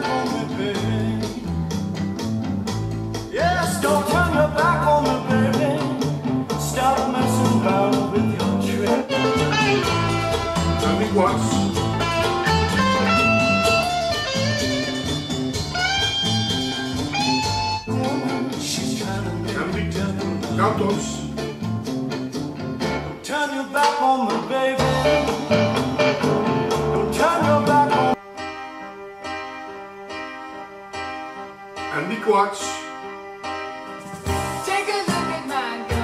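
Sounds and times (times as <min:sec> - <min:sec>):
blues guitar music over loudspeakers: 0:00.0 - 0:36.0.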